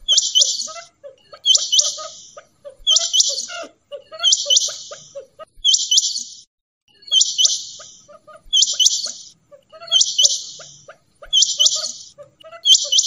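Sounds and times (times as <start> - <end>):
quail low clucking: 0.0 - 5.6, 7.2 - 13.0
quail calling: 0.0 - 6.4, 7.0 - 13.0.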